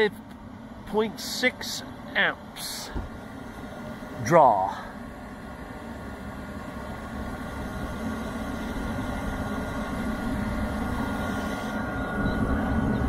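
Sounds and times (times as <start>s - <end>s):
fan hum: 0.0s - 13.0s
heater combustion rumble: 0.0s - 13.0s.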